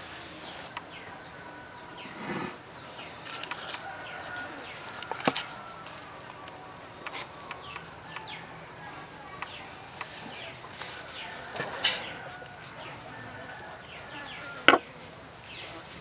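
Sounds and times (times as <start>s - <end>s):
birds chirping: 0.0s - 15.8s.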